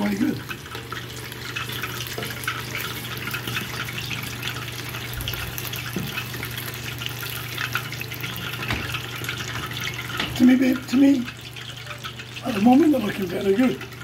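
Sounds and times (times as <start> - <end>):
oil sizzling and popping: 0.0 - 14.0.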